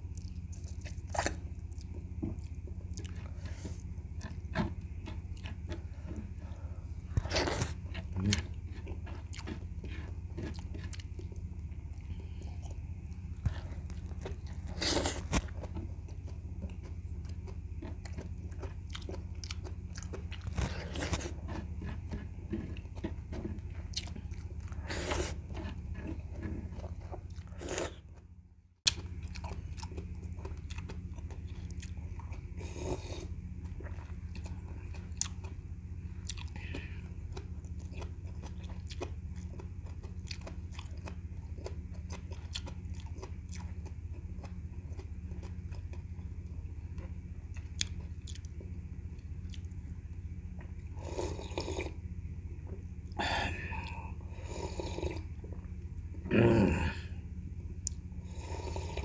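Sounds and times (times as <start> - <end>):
wet chewing and smacking: 0.0 - 6.4, 7.0 - 28.3, 28.9 - 50.9
steady low hum: 0.0 - 59.0.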